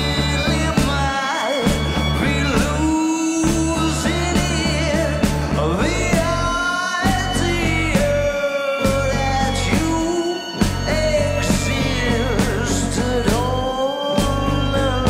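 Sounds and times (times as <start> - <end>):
bass notes: 0.0 - 15.0
drum hits: 0.0 - 15.0
person singing: 0.0 - 15.0.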